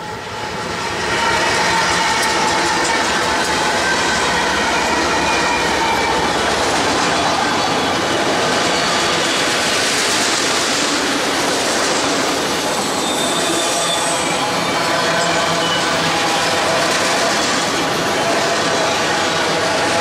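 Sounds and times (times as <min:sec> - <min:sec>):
locomotive engine: 0:00.0 - 0:20.0
steel wheels rolling on rail: 0:00.0 - 0:20.0.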